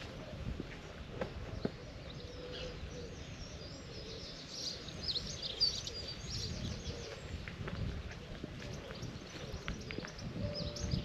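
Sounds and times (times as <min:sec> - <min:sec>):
birds singing and chirping: 0:00.0 - 0:11.0.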